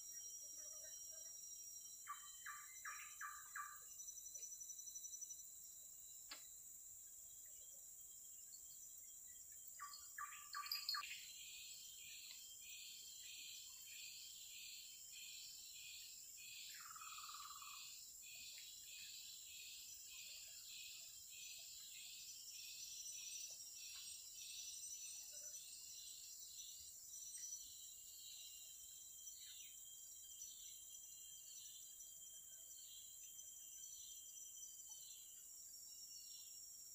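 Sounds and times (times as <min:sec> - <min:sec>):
high insect hum: 0:00.0 - 0:36.9.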